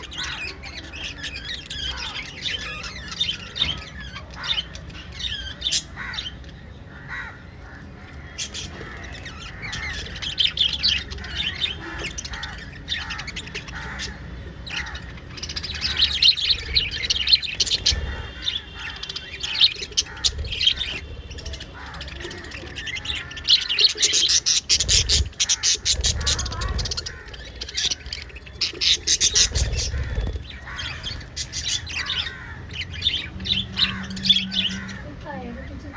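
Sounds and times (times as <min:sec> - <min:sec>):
lovebirds chirping: 0:00.0 - 0:35.9.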